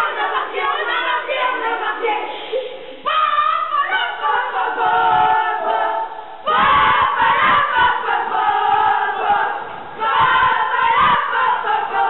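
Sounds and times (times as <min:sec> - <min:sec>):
boys singing and shouting a chant: 0:00.0 - 0:12.0.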